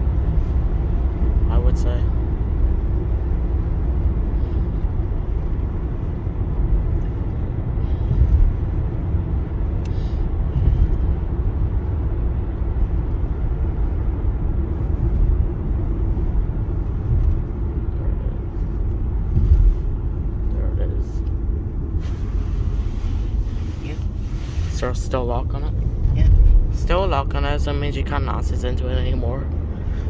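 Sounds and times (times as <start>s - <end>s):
car engine and tyre rumble: 0.0s - 30.0s.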